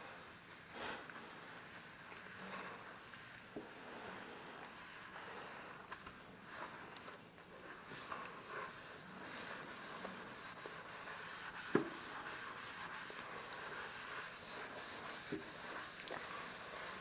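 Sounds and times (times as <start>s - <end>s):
sponge rubbing through foam: 1.7s - 17.0s.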